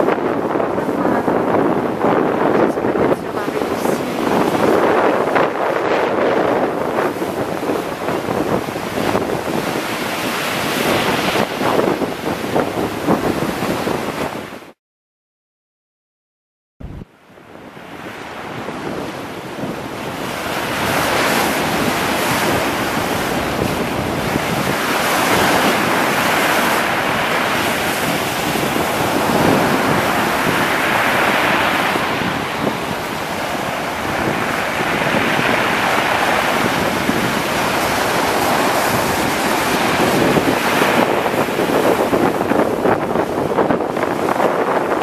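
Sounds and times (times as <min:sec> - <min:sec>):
waves breaking on pebble beach: 0:00.0 - 0:14.4, 0:17.8 - 0:45.0
wind buffeting microphone: 0:00.0 - 0:14.8, 0:16.8 - 0:45.0.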